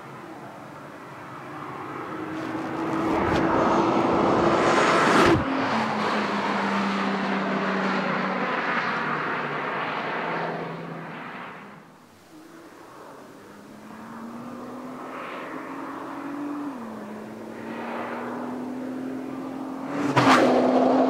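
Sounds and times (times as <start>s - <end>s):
car passing at speed: 0.2s - 21.0s.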